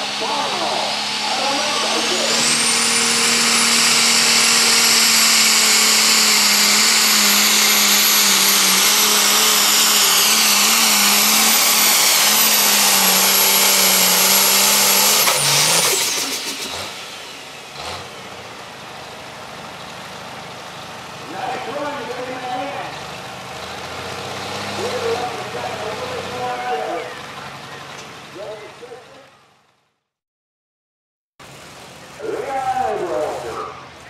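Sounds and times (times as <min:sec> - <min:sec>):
high turbo whine: 0:00.0 - 0:29.1
diesel tractor engine under load: 0:00.0 - 0:29.6.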